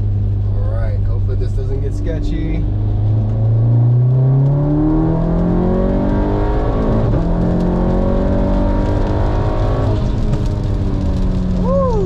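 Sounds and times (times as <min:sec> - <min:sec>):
turbocharged car engine revving: 0:00.0 - 0:11.4.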